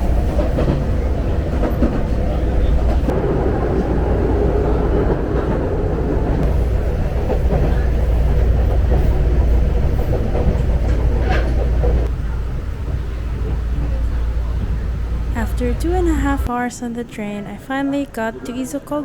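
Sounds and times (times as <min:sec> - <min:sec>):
train rumbling: 0:00.0 - 0:17.6.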